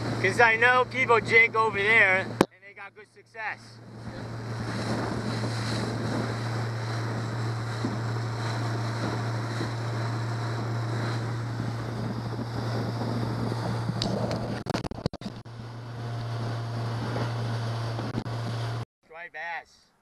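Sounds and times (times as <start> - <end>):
wind and water spray rushing: 0.0 - 2.4, 3.8 - 18.8
outboard motor humming: 0.0 - 2.5, 3.4 - 18.8.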